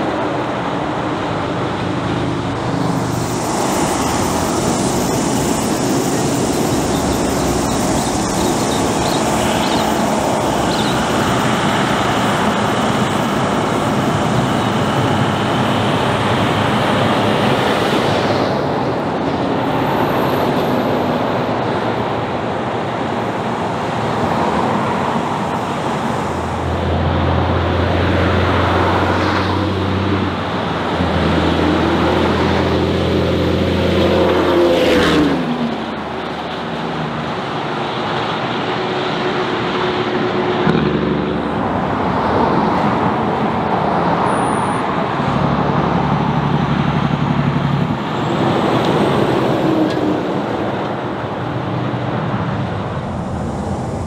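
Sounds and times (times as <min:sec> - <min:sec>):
deep truck engine drone: 0:00.0 - 0:54.0
trucks passing: 0:00.0 - 0:54.0
tyres on road: 0:00.0 - 0:54.0.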